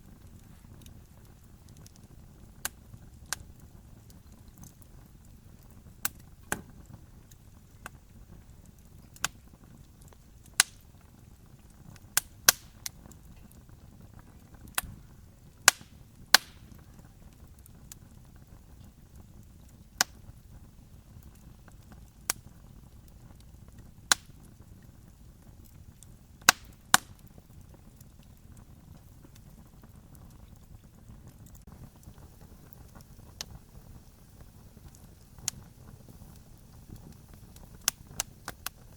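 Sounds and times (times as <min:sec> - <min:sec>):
faint low hiss: 0:00.0 - 0:38.9
wood fire crackling: 0:00.0 - 0:38.9.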